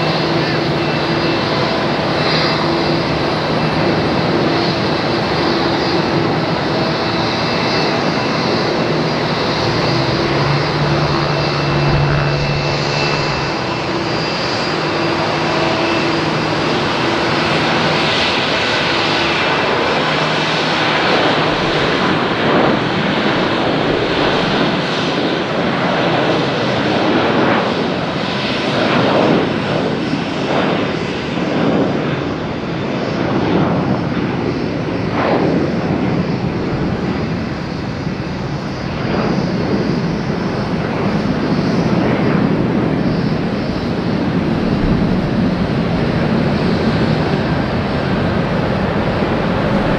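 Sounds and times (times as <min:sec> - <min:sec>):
aircraft engines running: 0:00.0 - 0:49.9.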